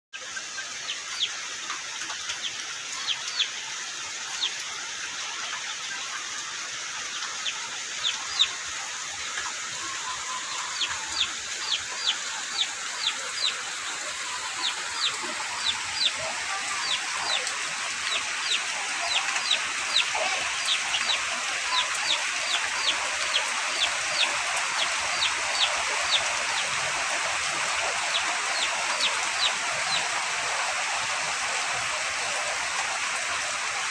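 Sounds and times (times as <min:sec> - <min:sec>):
chicks peeping: 0:00.2 - 0:33.5
rain hissing: 0:00.2 - 0:33.9.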